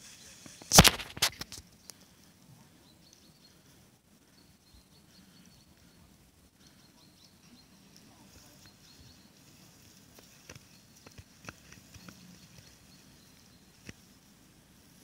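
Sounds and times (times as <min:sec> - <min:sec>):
faint bird chirps: 0:01.7 - 0:14.5.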